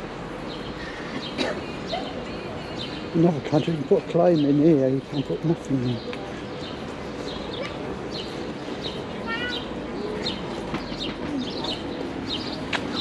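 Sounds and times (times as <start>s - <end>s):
street noise hum: 0.0s - 13.0s
small birds chirping: 0.4s - 13.0s.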